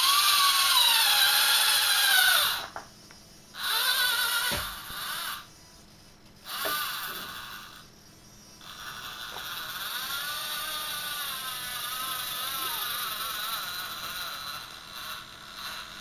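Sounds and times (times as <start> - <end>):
electric motor whining: 0.0 - 5.8, 6.4 - 16.0.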